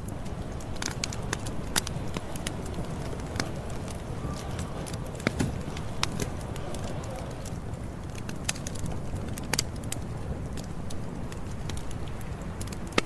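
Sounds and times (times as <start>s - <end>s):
campfire burning: 0.0s - 13.0s
crackles and pops of burning wood: 0.0s - 13.0s.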